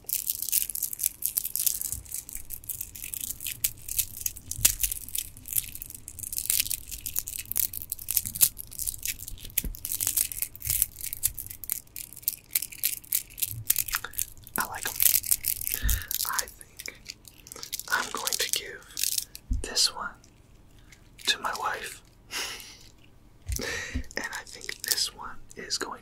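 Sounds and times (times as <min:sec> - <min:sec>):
stone beads clicking and rattling: 0:00.0 - 0:19.4, 0:22.8 - 0:25.1.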